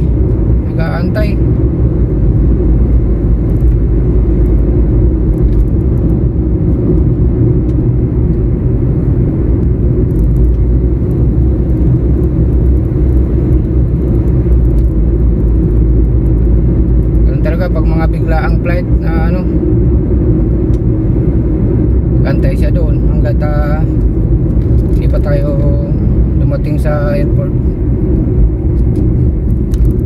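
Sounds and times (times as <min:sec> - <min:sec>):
road and engine rumble in car: 0:00.0 - 0:30.0.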